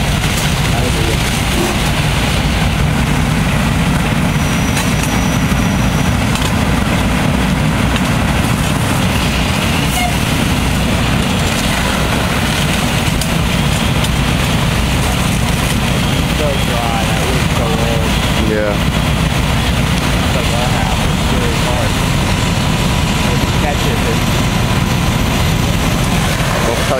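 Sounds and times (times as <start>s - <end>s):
diesel engines rumbling: 0.0s - 26.9s.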